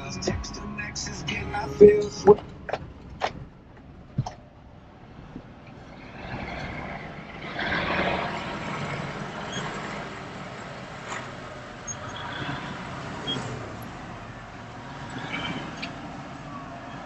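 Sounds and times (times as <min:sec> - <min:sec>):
heavy truck rumbling: 0:00.0 - 0:17.0.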